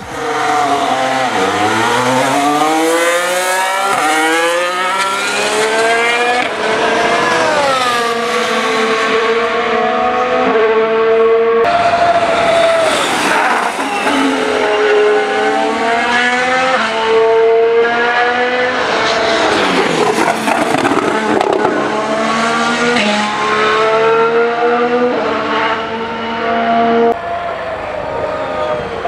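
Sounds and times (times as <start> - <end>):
racing car engines at speed: 0.0 - 29.0.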